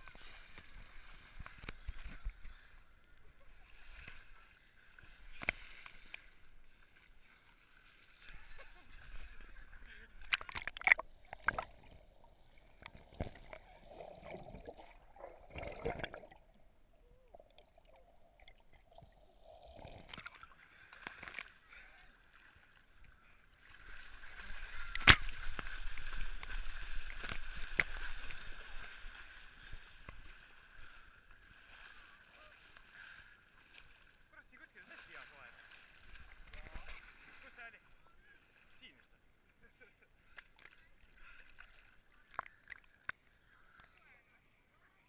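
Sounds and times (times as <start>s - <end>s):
water sloshing and splashing: 0.0s - 37.8s, 40.3s - 43.2s.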